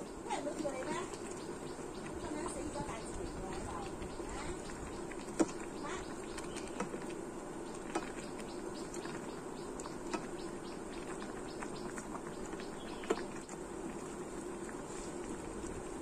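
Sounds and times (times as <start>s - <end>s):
vegetables stirred in saucepan: 0.0s - 16.0s
water bubbling: 0.0s - 16.0s.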